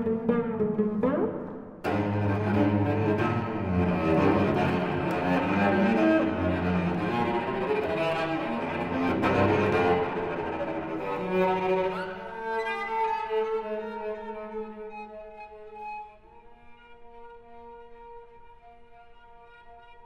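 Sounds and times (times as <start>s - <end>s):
bowed cello: 0.0s - 20.0s.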